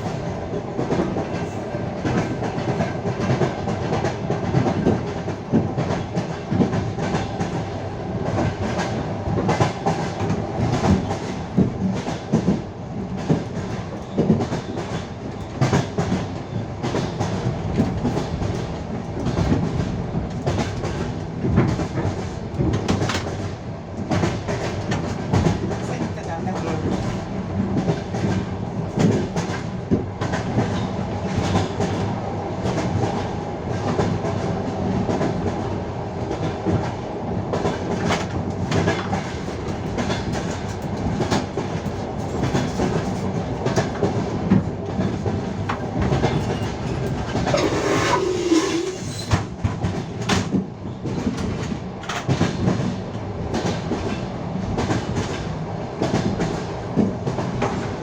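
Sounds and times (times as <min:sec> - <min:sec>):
train wheels clattering over rail joints: 0:00.0 - 0:34.4, 0:36.3 - 0:58.0
train running rumble: 0:00.0 - 0:58.0.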